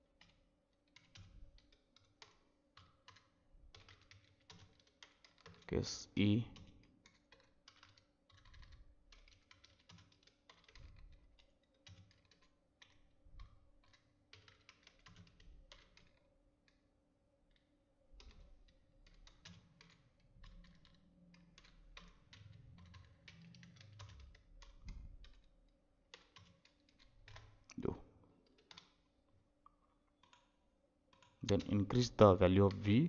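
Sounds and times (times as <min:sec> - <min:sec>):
computer keyboard typing: 0:00.1 - 0:16.8, 0:17.5 - 0:29.0, 0:30.2 - 0:33.0.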